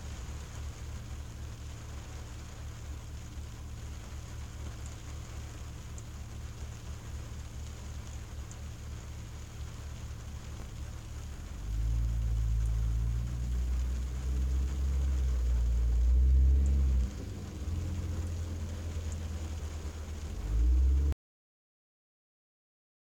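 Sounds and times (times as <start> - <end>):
faint rain drop ticks: 0.0 - 21.2
rain on a car windshield: 0.0 - 21.2.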